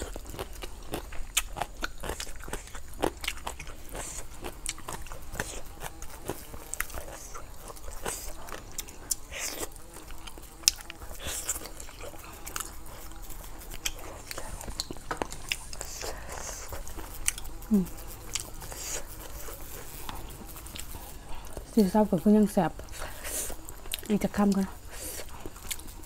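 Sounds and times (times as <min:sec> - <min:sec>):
crisp crunches of food: 0:00.0 - 0:21.7
wet chewing and mouth clicks: 0:00.0 - 0:22.0, 0:22.6 - 0:26.0.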